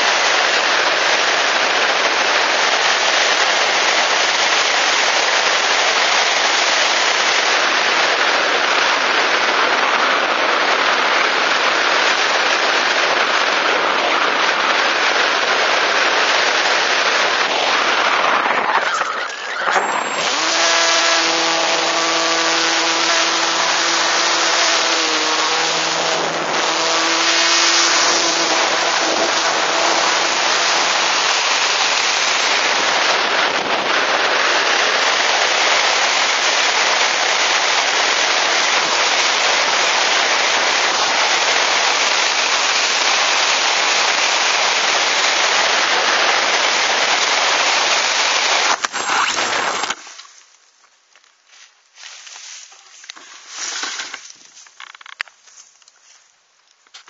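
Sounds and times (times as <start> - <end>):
electric motor and propeller hum: 0.0 - 10.0, 11.0 - 50.2.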